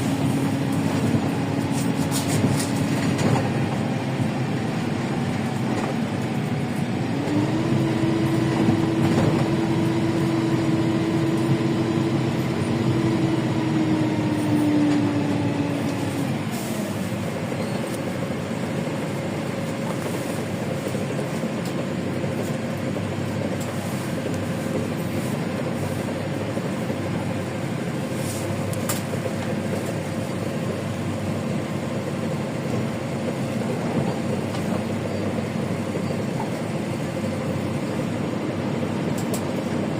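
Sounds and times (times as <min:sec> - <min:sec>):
bus engine whining under load: 0:00.0 - 0:39.9.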